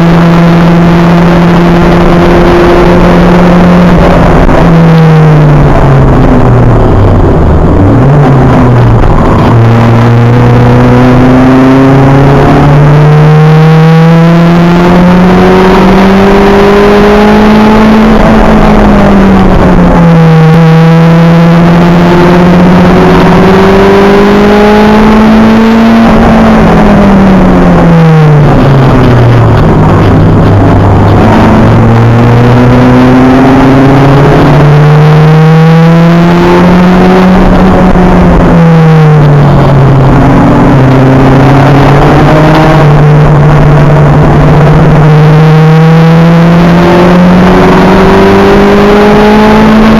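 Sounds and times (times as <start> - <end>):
race car engine revving: 0.0 - 49.9
wind and road noise: 0.0 - 49.9.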